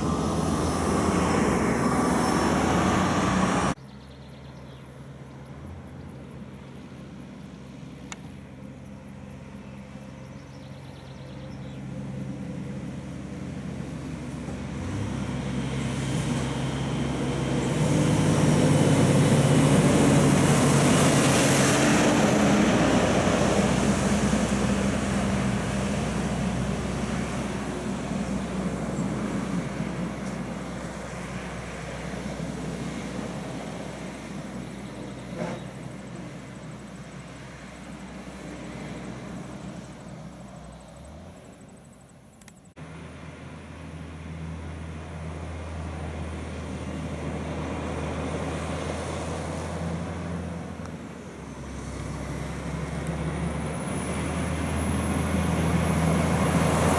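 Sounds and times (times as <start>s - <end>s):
truck driving past: 0.0s - 41.8s, 42.8s - 56.9s.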